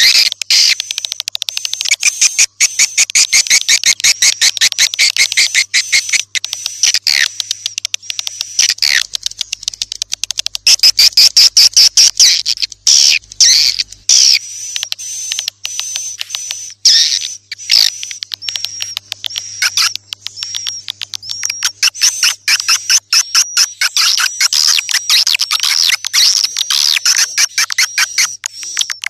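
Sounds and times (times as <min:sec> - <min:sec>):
swiftlets chattering and clicking: 0:00.0 - 0:29.0.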